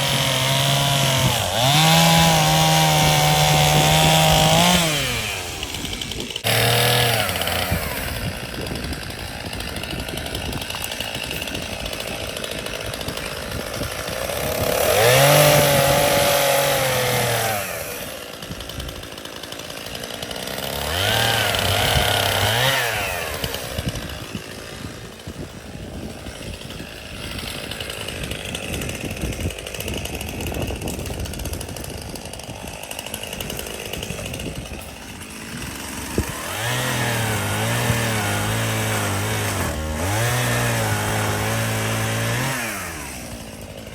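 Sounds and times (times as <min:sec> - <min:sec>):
chainsaw running and revving: 0:00.0 - 0:43.9.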